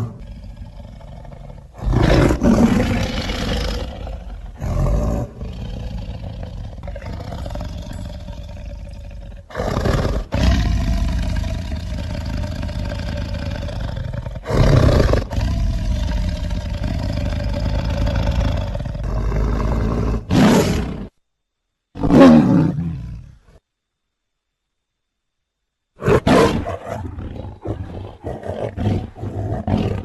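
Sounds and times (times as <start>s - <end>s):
big cat growling and roaring: 0.0s - 21.1s, 26.0s - 30.0s.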